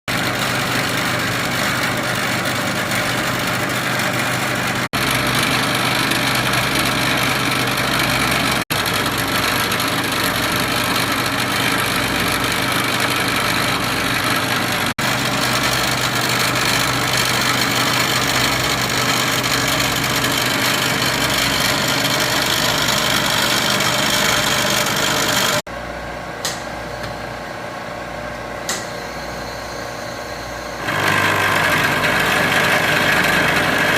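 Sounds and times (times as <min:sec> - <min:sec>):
machine tool running: 0:00.1 - 0:25.7, 0:30.2 - 0:33.9.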